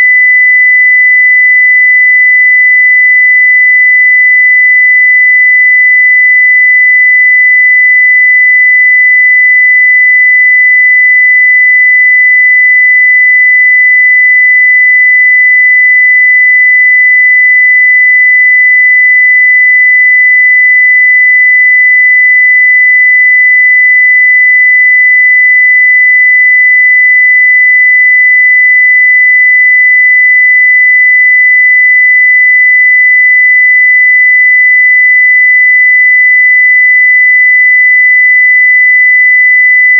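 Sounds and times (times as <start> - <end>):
steady sine-wave test tone: 0.0 - 39.9.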